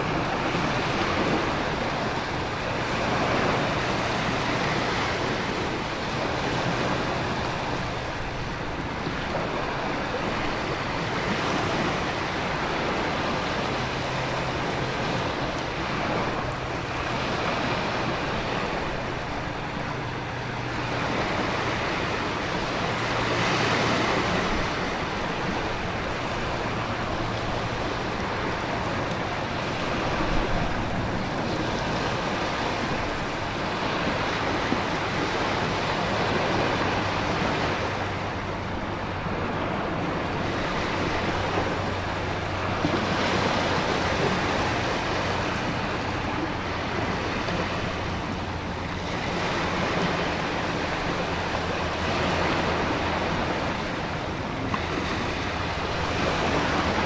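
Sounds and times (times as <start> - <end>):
ocean surf: 0.0 - 57.0
wind: 0.0 - 57.0.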